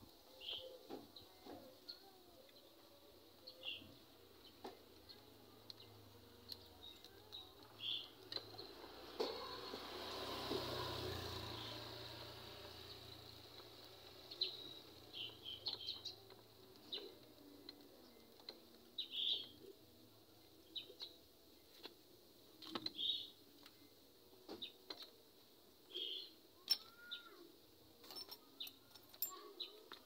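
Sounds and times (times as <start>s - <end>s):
small birds chirping: 0.0s - 27.5s, 28.4s - 30.0s.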